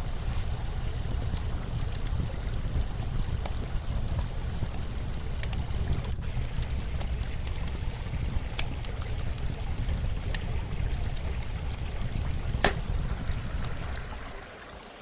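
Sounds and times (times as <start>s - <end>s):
campfire crackling and popping: 0.0s - 14.6s
running water flowing: 0.0s - 15.0s.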